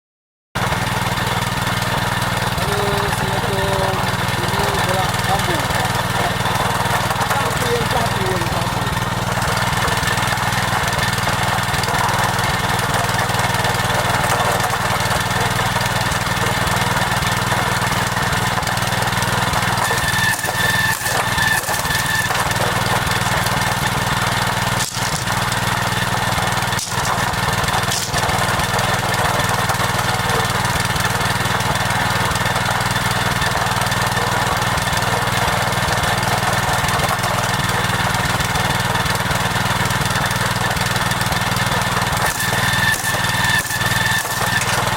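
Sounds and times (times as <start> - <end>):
small engine running: 0.6 - 44.9.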